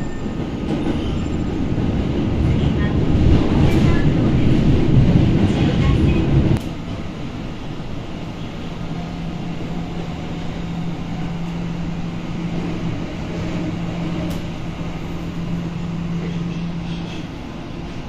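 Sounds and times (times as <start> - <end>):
subway car hum and rumble: 0.0 - 18.0.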